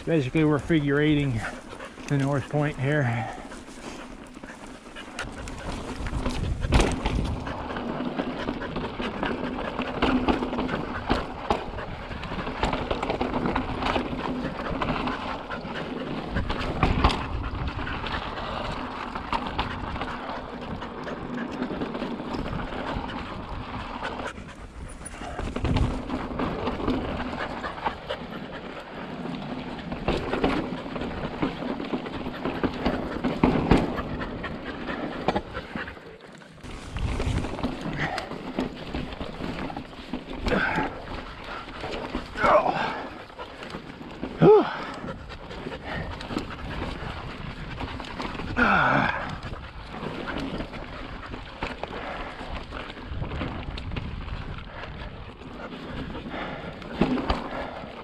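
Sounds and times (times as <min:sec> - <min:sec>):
mountain bike tyre and chassis rattle: 0:00.0 - 0:58.0.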